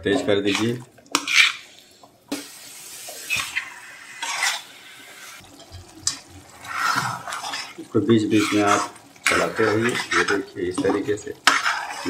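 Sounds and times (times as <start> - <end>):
spatula scraping metal pan: 0.0 - 1.8, 3.2 - 12.0
cooking hiss: 0.0 - 12.0.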